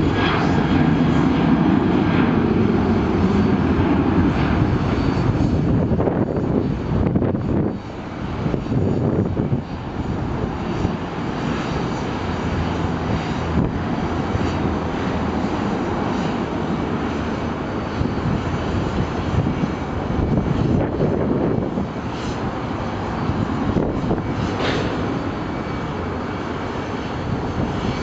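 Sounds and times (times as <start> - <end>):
jet engines deep rumble: 0.0 - 28.0.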